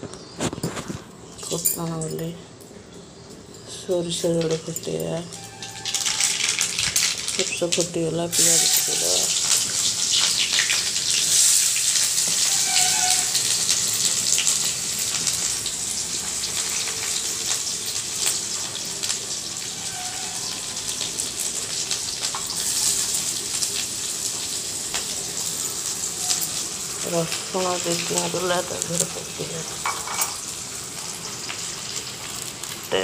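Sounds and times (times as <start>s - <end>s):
hot oil sizzling in a pan: 3.9s - 33.0s.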